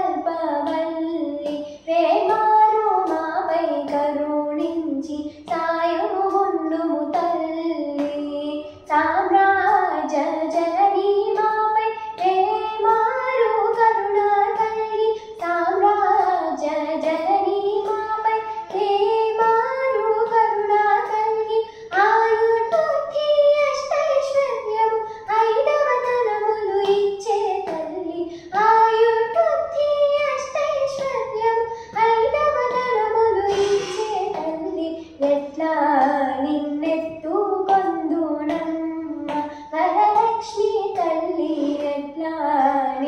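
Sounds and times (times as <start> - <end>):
girl singing: 0.0 - 43.0.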